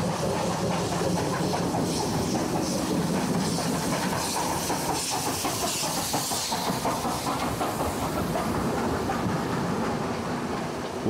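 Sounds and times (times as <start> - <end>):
steam hissing: 0.0 - 11.0
wheels clattering on rails: 0.0 - 11.0.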